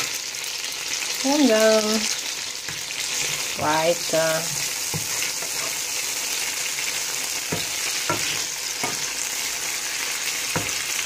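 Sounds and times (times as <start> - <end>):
chicken sizzling in a pan: 0.0 - 11.0
spatula scraping a pan: 2.0 - 11.0.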